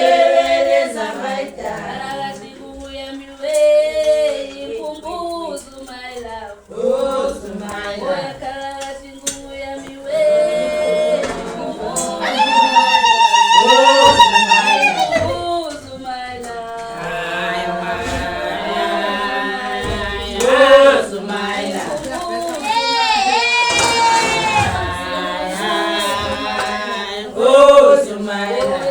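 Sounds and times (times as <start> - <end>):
choir singing held notes: 0.0 - 28.9.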